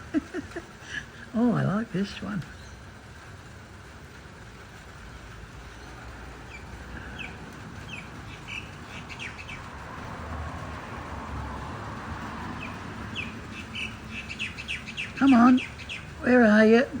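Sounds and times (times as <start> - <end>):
small birds chirping: 0.0 - 3.4, 4.4 - 17.0
faint background hiss: 0.0 - 17.0.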